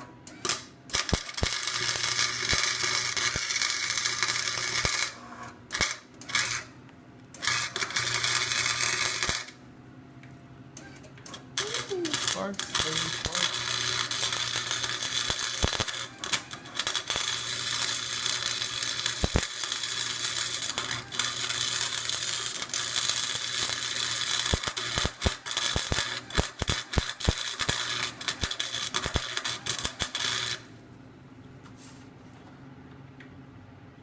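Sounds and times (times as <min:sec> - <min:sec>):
welder arc crackling: 0:00.5 - 0:06.7, 0:07.4 - 0:09.6, 0:11.6 - 0:30.7.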